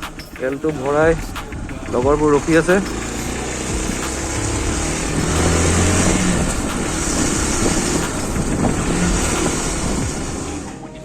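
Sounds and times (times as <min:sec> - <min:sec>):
traffic noise: 0:00.0 - 0:11.0
vehicle engine running: 0:00.0 - 0:11.0.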